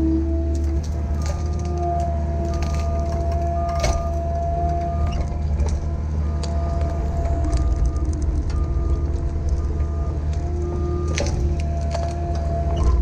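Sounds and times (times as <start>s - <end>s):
excavator diesel engine humming: 0.0s - 13.0s
hydraulic whine: 0.0s - 13.0s.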